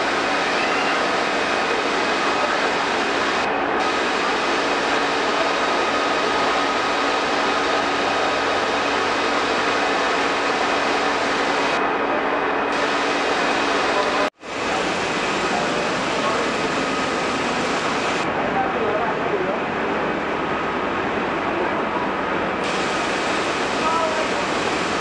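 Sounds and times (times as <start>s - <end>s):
constant machine hums: 0.0s - 25.0s
factory machinery din: 0.0s - 25.0s.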